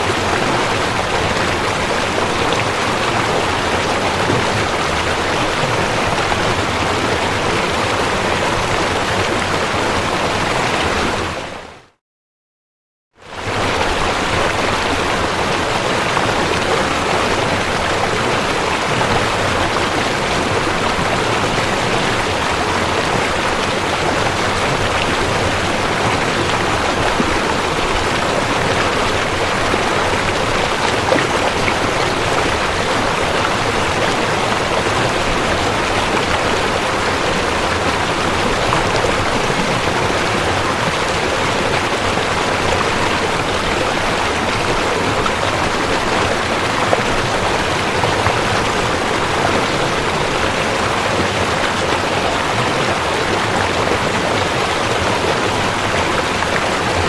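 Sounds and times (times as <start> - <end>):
waterfall roaring: 0.0 - 11.8, 13.4 - 57.0.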